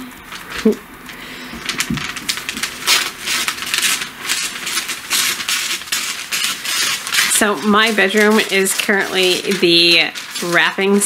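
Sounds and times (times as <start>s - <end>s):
paper crackling and rustling: 0.0s - 11.0s
scissors cutting paper: 1.7s - 11.0s.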